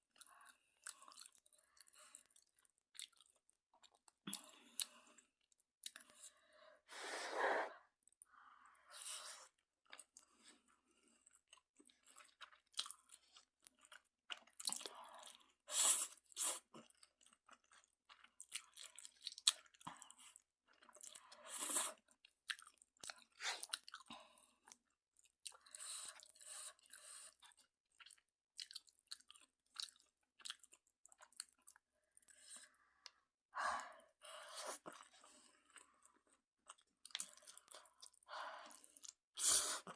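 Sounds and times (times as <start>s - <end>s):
person chewing noodles: 0.1s - 6.3s, 9.4s - 33.2s, 34.3s - 39.9s.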